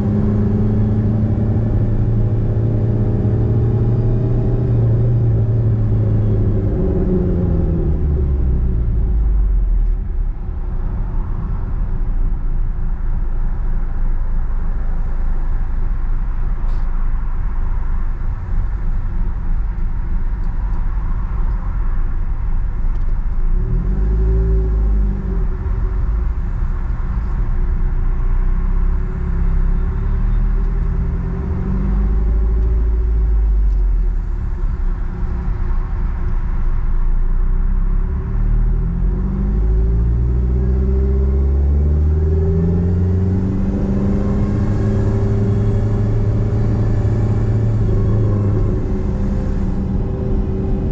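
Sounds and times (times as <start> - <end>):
car engine rumbling: 0.0 - 50.9.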